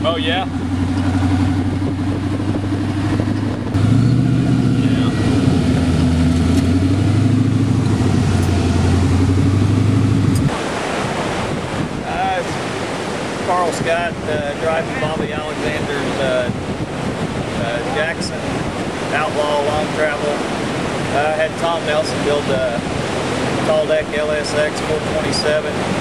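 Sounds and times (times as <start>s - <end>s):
engine running steadily: 0.0s - 26.0s
wind noise on microphone: 0.0s - 26.0s.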